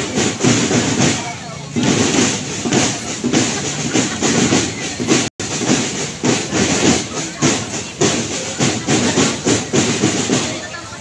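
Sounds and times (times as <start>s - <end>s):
crowd voices: 0.0s - 11.0s
rhythmic drum beating: 0.0s - 11.0s.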